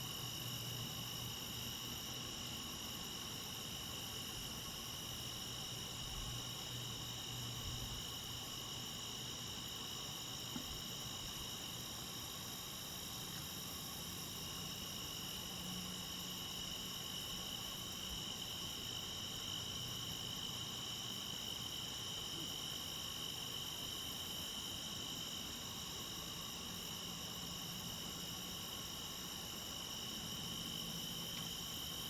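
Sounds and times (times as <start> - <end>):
crickets and insects trilling: 0.0 - 32.0.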